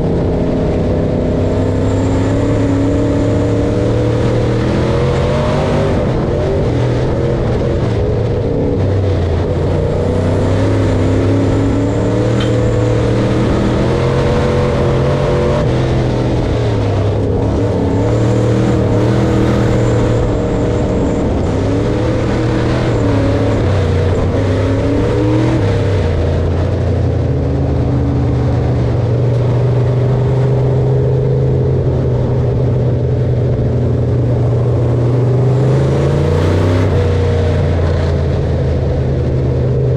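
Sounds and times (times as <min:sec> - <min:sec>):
large harvester engine running: 0:00.0 - 0:39.9.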